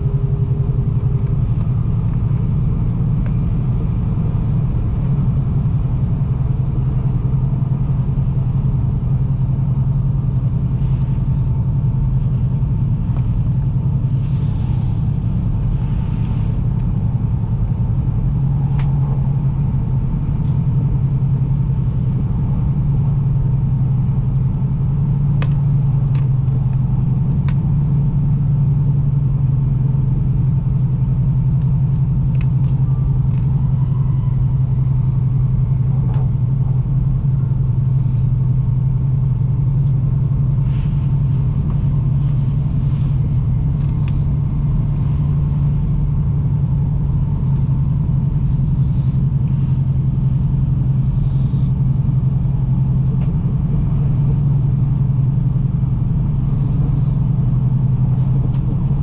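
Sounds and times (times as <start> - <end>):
train rumble inside car: 0.0 - 59.0.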